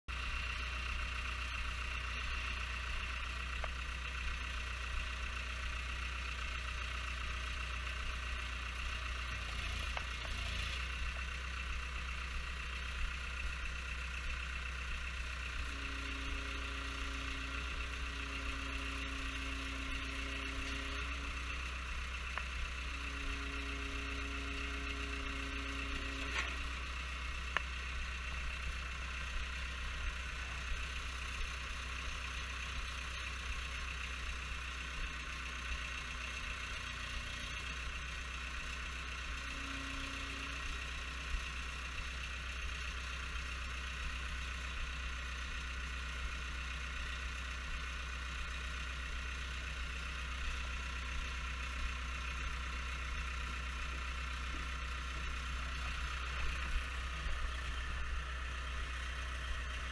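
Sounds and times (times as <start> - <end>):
diesel engine running: 0.1 - 59.9.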